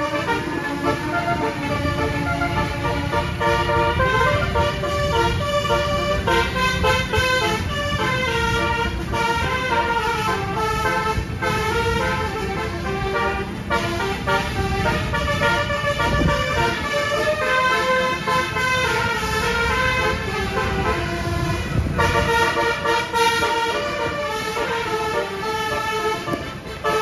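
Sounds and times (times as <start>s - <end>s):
low rumble of moving vehicles: 0.0s - 27.0s
multi-tone bus horn melody: 0.0s - 27.0s.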